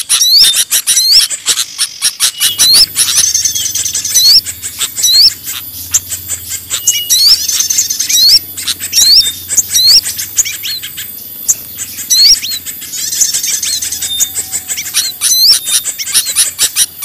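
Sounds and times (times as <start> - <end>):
songbirds ticking calls and trills: 0.0 - 17.0
short rising whistled chirps: 1.9 - 17.0.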